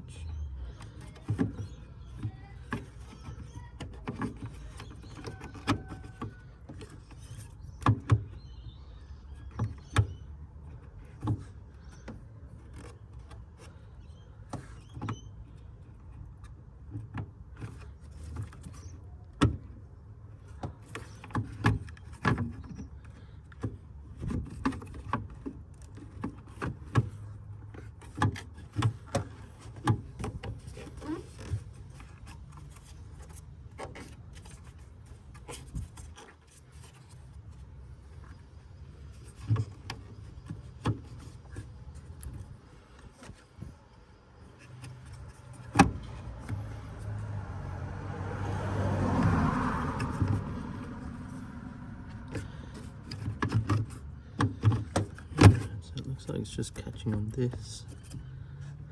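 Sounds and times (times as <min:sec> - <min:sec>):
hard plastic clicks and scrapes: 0:00.6 - 0:47.2, 0:49.3 - 0:56.1.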